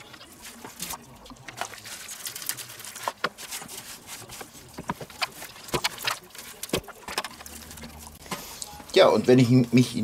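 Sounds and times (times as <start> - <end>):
hands rubbing and patting meat: 0.0 - 8.5.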